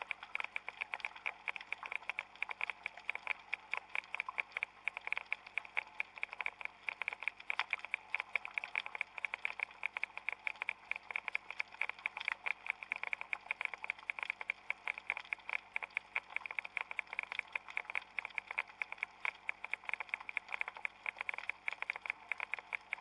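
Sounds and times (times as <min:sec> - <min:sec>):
underwater crackling clicks: 0:00.0 - 0:23.0.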